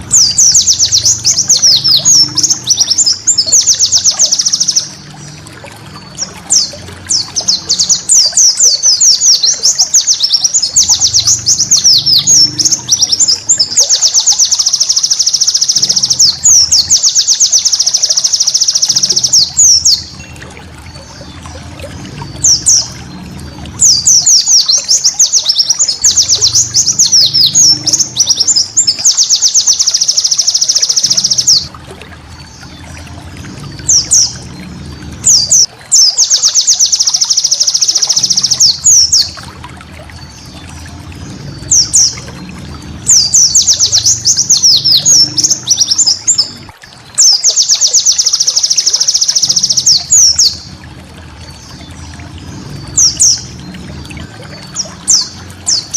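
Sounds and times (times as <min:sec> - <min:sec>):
bird singing chattering trills: 0:00.0 - 0:05.3, 0:06.2 - 0:31.7, 0:33.9 - 0:39.4, 0:41.4 - 0:50.8.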